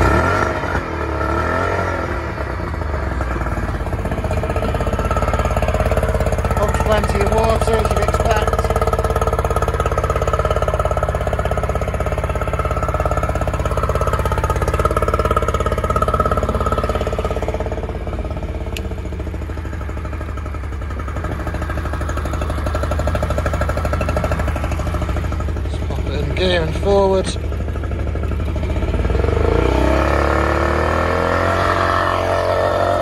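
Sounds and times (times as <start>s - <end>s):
outboard engine running: 0.0s - 33.0s.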